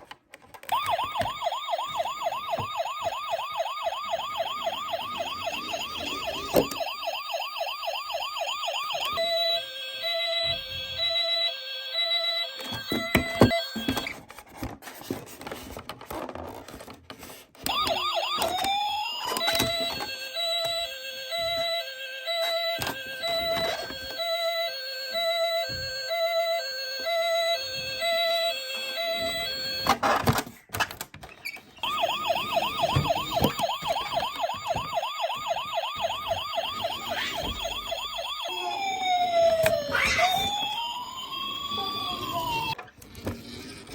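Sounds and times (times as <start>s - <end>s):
toy electronic siren wailing: 0.7s - 14.2s, 17.7s - 30.2s, 31.5s - 42.8s.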